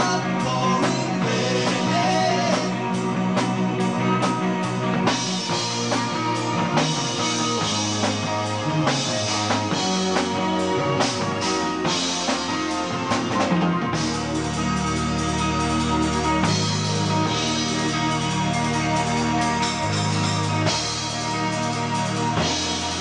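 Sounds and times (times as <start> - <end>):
drum kit: 0.0 - 23.0
live rock band playing: 0.0 - 23.0.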